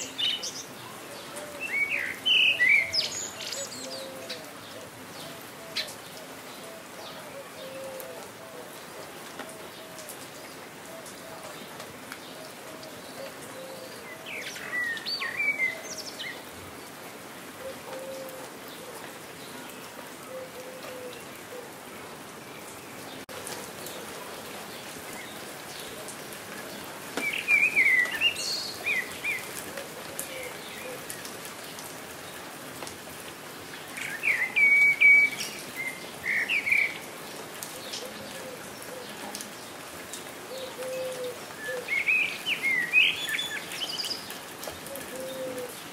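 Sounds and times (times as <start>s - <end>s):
songbird chirping: 0.0s - 17.0s, 17.6s - 31.9s, 33.7s - 39.9s, 40.5s - 45.8s
steady rain: 0.0s - 45.9s.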